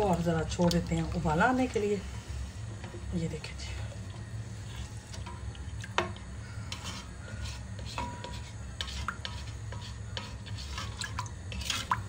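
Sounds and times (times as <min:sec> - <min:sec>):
broth swishing in a pot: 0:00.0 - 0:12.0
steady low hum: 0:00.0 - 0:12.0.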